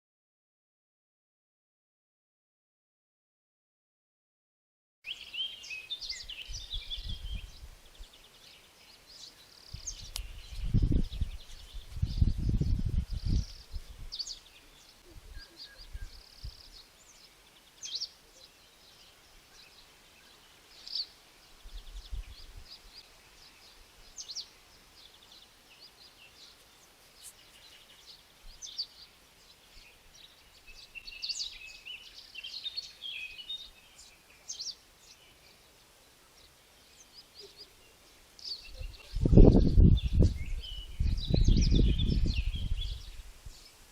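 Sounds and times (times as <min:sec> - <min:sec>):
small birds chirping: 0:05.0 - 0:43.9.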